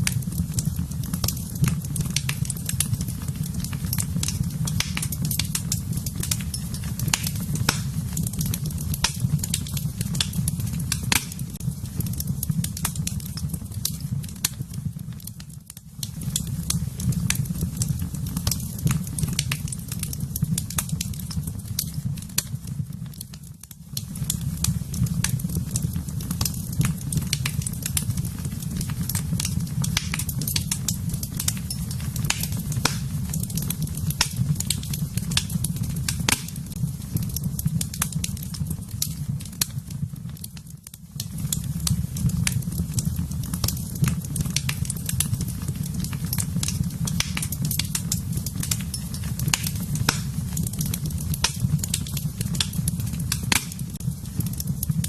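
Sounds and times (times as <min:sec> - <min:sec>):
flames rumbling: 0:00.0 - 0:55.0
wood fire crackling and popping: 0:00.0 - 0:55.0.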